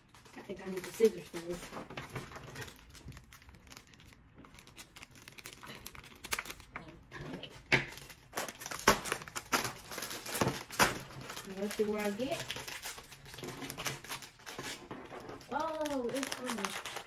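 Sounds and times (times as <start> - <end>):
plastic wrapper crinkling and tearing: 0.0 - 17.0.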